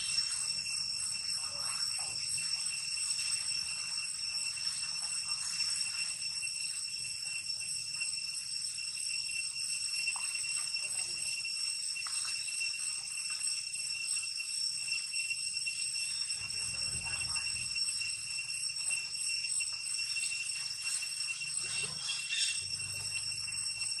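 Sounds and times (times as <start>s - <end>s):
insects droning whine: 0.0s - 24.0s.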